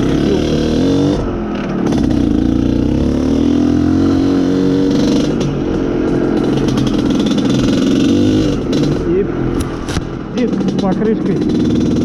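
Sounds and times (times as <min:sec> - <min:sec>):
motorcycle rattling: 0:00.0 - 0:12.0
two-stroke motorcycle engine: 0:00.0 - 0:12.0.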